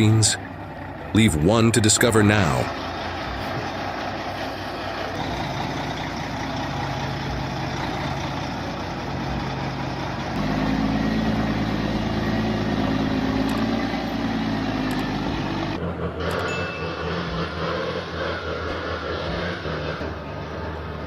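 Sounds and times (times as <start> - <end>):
heavy machine engine running: 0.0 - 21.0.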